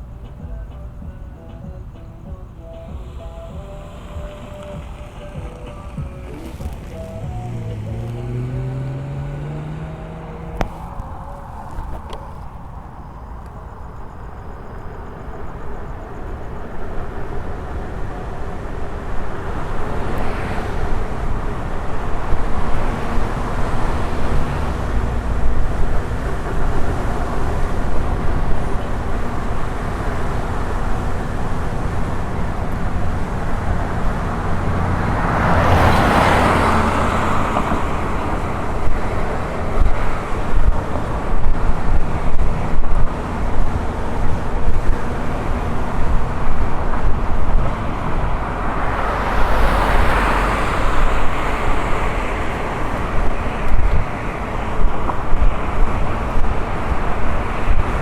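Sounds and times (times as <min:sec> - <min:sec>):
wind and road noise: 0:00.0 - 0:58.0
wind gusting on microphone: 0:02.9 - 0:58.0.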